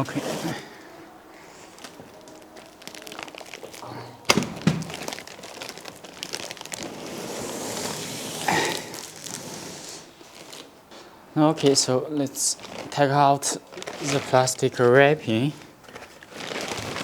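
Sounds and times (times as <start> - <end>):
rustle of plastic packaging: 0.0 - 17.0.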